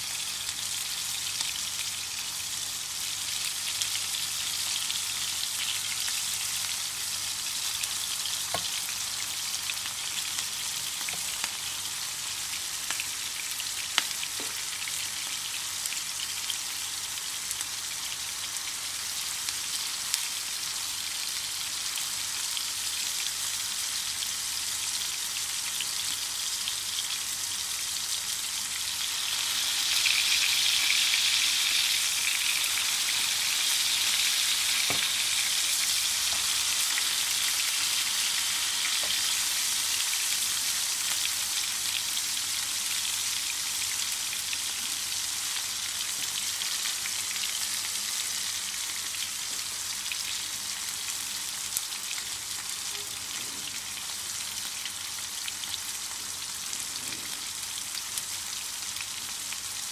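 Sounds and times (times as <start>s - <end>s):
meat patties sizzling in oil: 0.0s - 59.9s.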